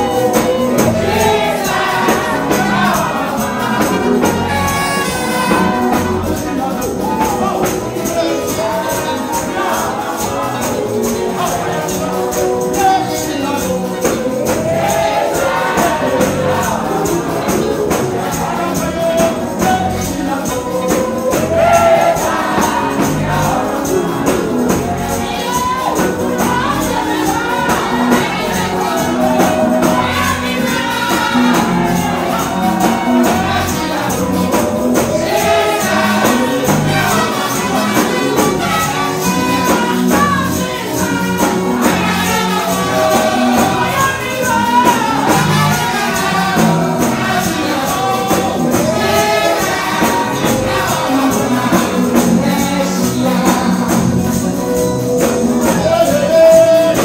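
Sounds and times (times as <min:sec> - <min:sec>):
choir singing: 0:00.0 - 0:57.0
fast tambourine beat: 0:00.0 - 0:57.0.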